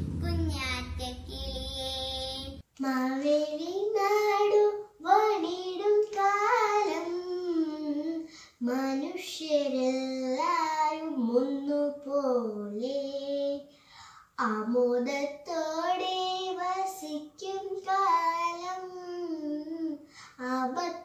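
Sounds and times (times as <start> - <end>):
girl singing unaccompanied: 0.0 - 21.0.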